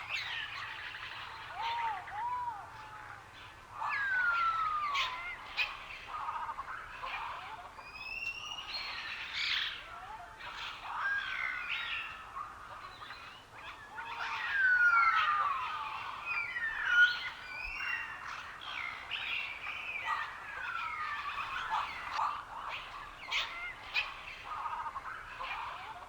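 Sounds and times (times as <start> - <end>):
songbirds singing and chirping: 0.0 - 26.0.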